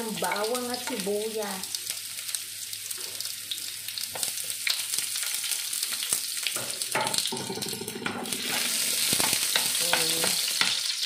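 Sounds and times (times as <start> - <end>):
onion sizzling in oil: 0.0 - 11.0.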